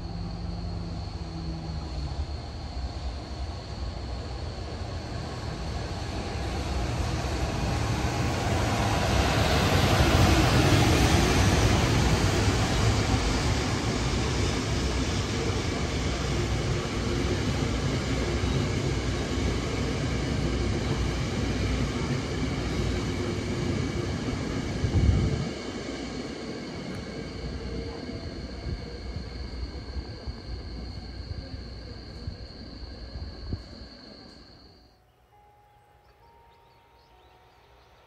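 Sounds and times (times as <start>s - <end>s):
train wheels rumbling on rails: 0.0s - 34.7s.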